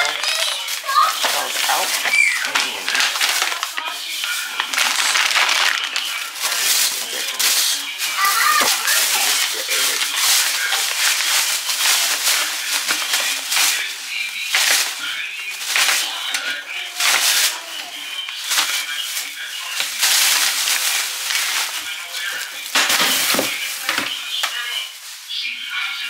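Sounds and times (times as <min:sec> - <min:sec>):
plastic bags rustling and crinkling: 0:00.0 - 0:26.0.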